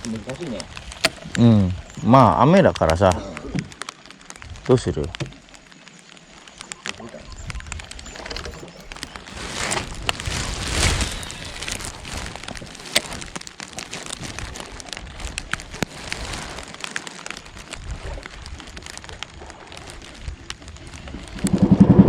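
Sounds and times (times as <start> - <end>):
heavy rain falling: 0.0 - 20.1
raindrops clicking on surfaces: 0.0 - 21.8.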